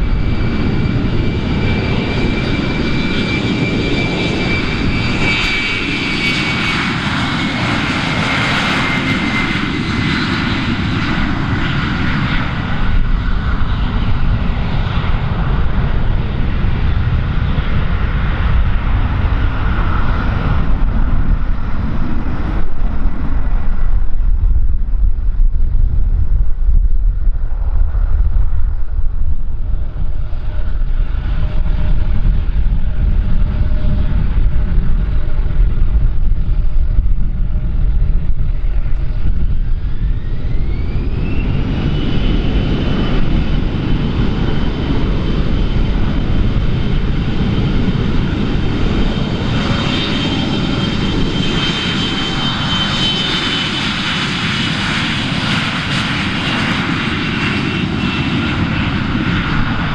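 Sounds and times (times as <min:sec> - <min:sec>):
jet engines spooling up: 0:00.0 - 0:59.9
rising engine whine: 0:00.0 - 0:59.9.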